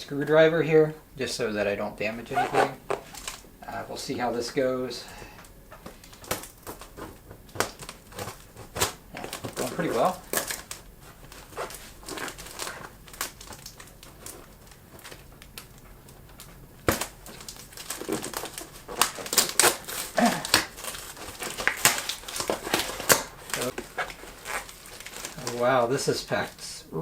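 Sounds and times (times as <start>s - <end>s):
packaging crinkling: 2.1s - 3.6s, 5.4s - 26.7s.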